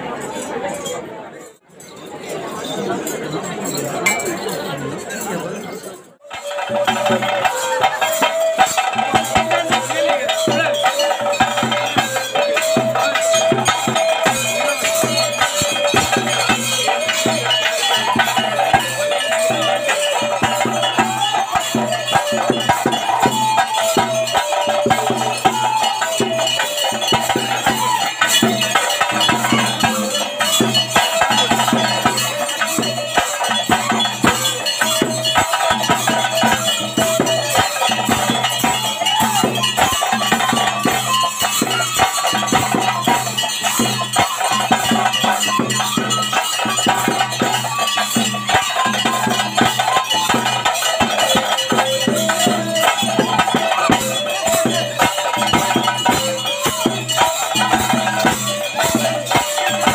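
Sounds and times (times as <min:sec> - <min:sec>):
wind instrument melody: 0:06.2 - 0:59.9.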